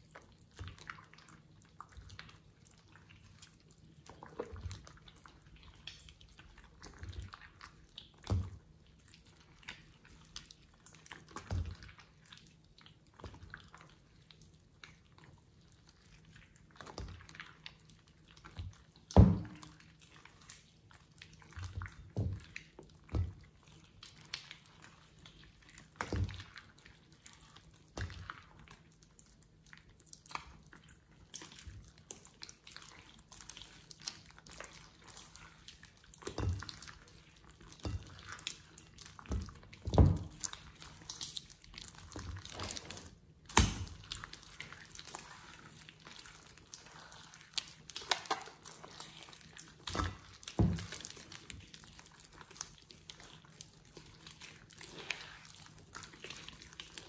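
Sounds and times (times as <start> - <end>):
slime squelching and popping: 0.0 - 57.0.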